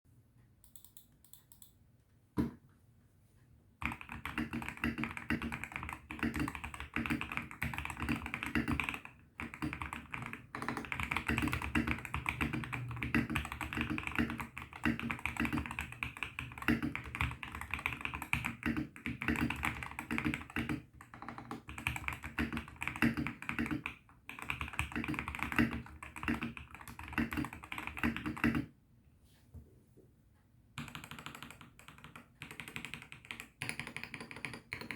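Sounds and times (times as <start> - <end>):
typing on mechanical keyboard: 3.8 - 28.7, 30.8 - 34.9.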